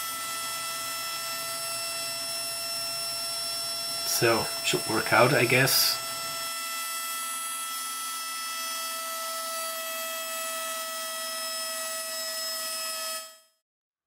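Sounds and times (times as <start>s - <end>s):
chamfering tool motor whine: 0.0s - 13.6s.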